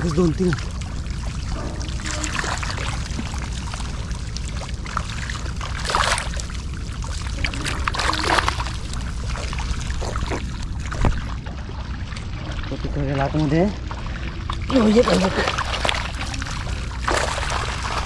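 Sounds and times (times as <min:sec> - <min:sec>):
steady low rumble: 0:00.0 - 0:18.0
water splashing from wading: 0:00.0 - 0:18.0.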